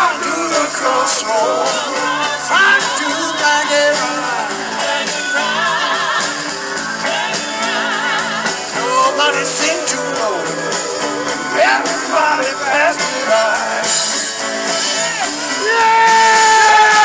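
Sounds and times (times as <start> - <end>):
person singing: 0.0 - 14.2
live rock band playing: 0.0 - 17.0.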